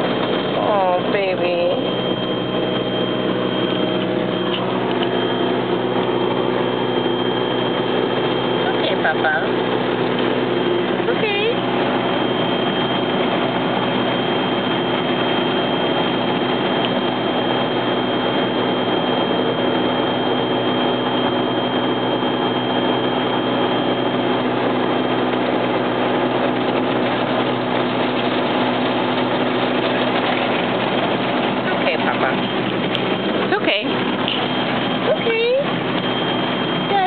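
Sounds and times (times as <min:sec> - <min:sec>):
machine hum: 0:00.0 - 0:37.0
thin high whine: 0:00.0 - 0:37.0.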